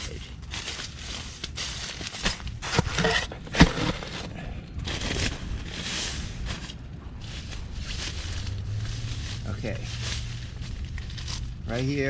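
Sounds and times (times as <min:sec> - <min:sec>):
fabric rustling and crinkling: 0:00.0 - 0:12.0.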